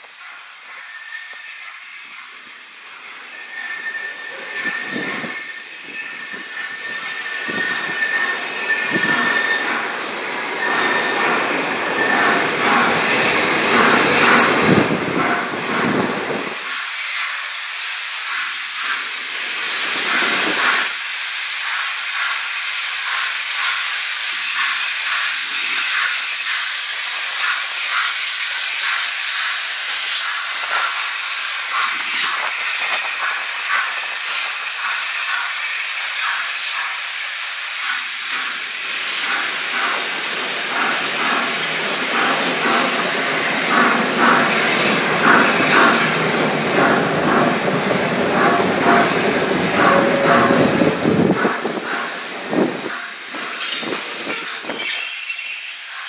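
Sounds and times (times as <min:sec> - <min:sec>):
steam locomotive hissing and chuffing: 0:00.0 - 0:56.0.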